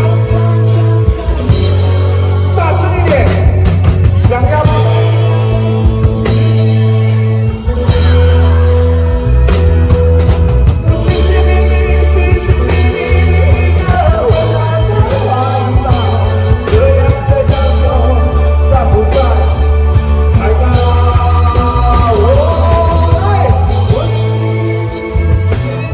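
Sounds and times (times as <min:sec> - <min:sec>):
person singing: 0:00.0 - 0:25.9
rock band playing: 0:00.0 - 0:25.9.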